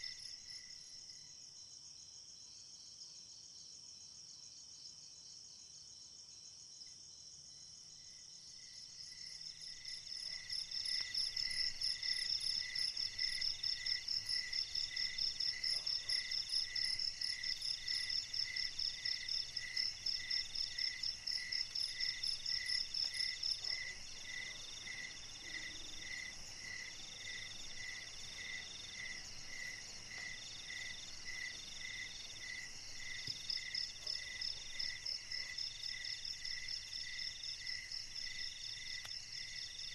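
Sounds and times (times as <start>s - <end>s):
lower cricket chirp: 0.0s - 39.9s.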